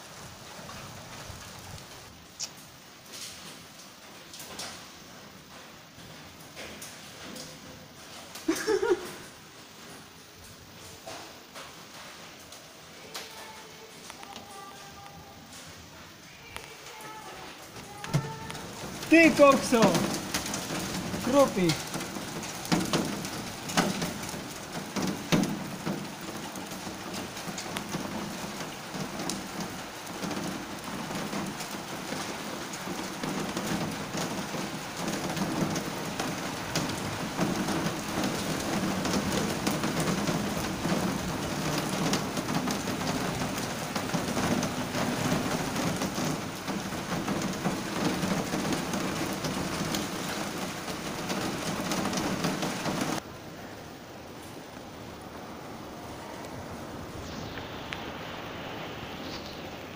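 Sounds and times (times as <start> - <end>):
hailstones ticking: 0.0 - 15.8, 16.4 - 53.2
heavy rain on paving: 0.0 - 59.9.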